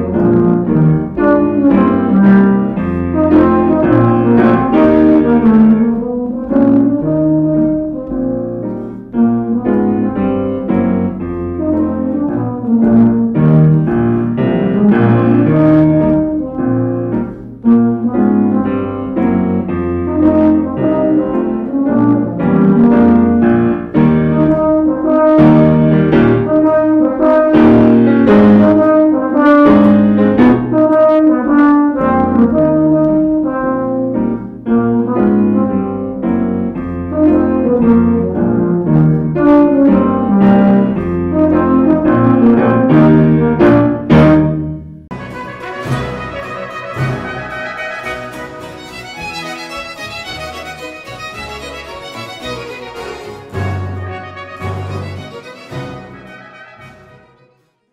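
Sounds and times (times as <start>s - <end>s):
euphonium melody: 0.0s - 57.9s
piano accompaniment: 0.0s - 57.9s.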